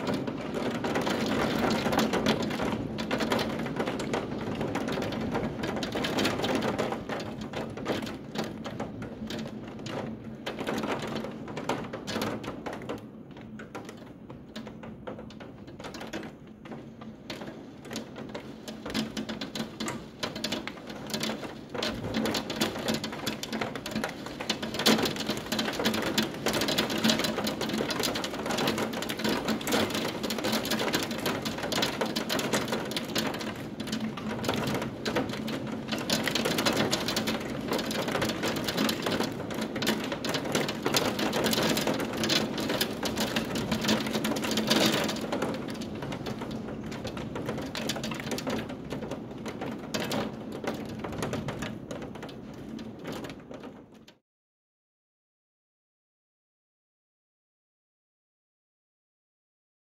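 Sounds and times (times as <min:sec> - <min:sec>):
heavy rain on a window: 0:00.0 - 0:54.2.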